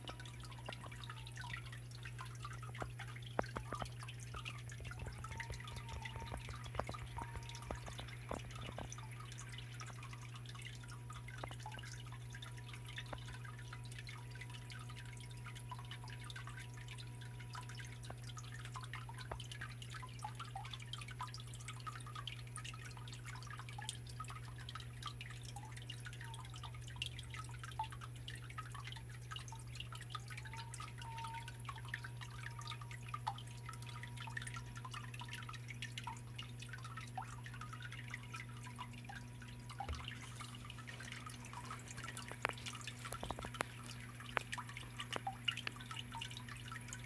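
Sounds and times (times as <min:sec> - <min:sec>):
water trickling onto rocks: 0:00.0 - 0:47.0.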